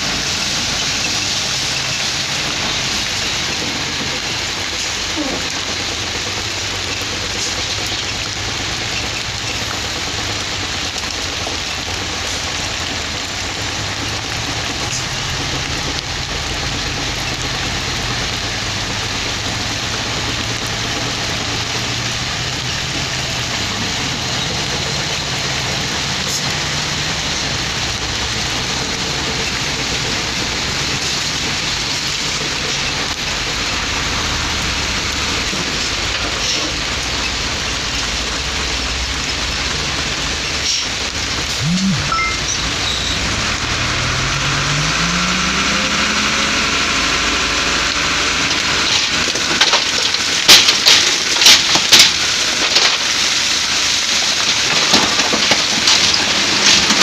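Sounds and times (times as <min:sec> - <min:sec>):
diesel truck engines humming: 0:00.0 - 0:57.0.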